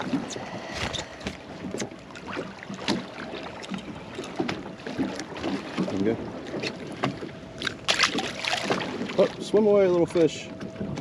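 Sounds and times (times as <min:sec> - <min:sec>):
waves lapping against boat hull: 0:00.0 - 0:11.0.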